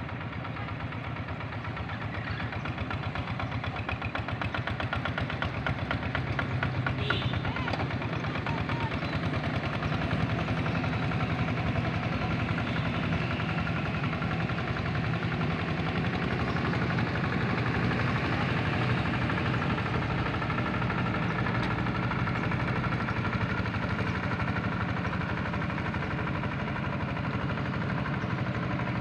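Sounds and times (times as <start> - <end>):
diesel engine chugging: 0.0 - 29.0.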